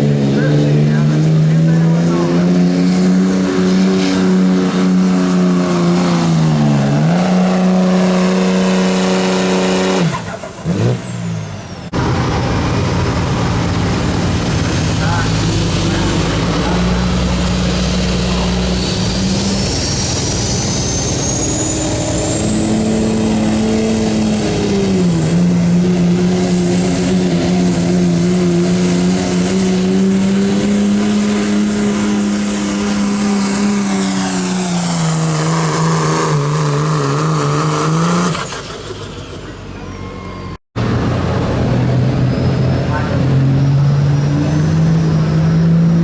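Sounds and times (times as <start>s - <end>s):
diesel truck engine at full throttle: 0.0s - 46.0s.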